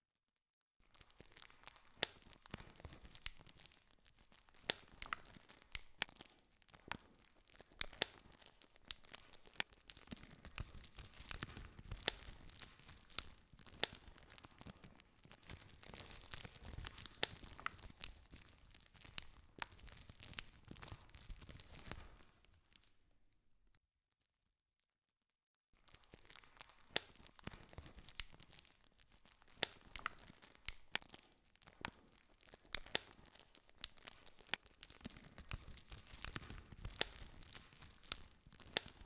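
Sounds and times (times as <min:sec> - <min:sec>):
burning wood snapping and popping: 0:00.9 - 0:23.0, 0:25.8 - 0:39.0.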